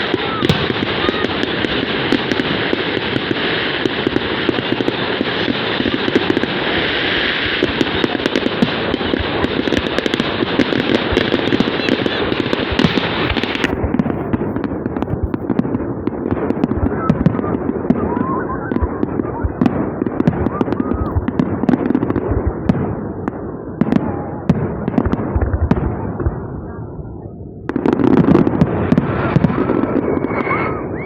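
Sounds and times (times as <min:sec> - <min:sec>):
fireworks crackling and popping: 0:00.0 - 0:26.7, 0:27.6 - 0:31.0.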